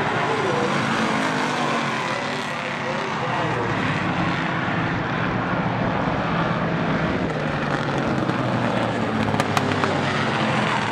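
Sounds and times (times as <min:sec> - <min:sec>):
race car engines running: 0:00.0 - 0:10.9.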